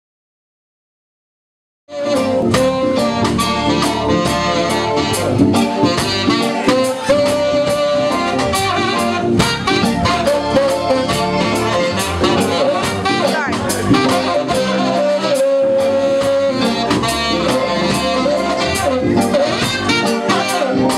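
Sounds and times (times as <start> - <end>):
live band playing: 1.9 - 20.9
saxophone and trombone horn lines: 1.9 - 20.9
drum beat: 2.1 - 20.9.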